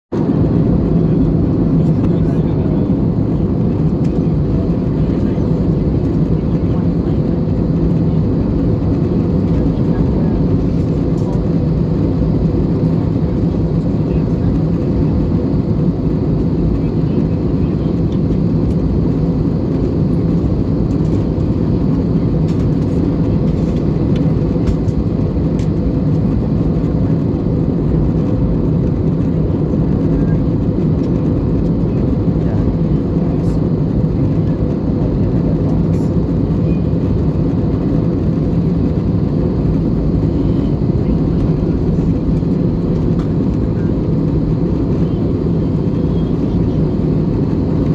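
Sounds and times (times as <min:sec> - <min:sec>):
airplane cabin airflow and engines: 0:00.1 - 0:47.9.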